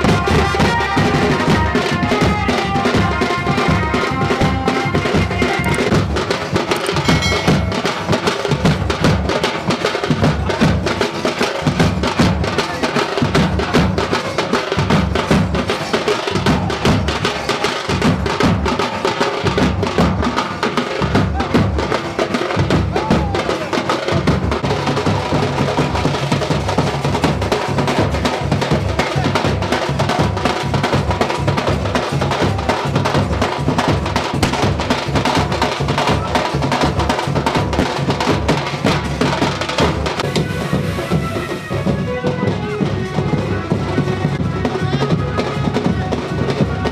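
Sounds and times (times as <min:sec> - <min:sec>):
loud music with heavy drum beat: 0:00.0 - 0:46.9.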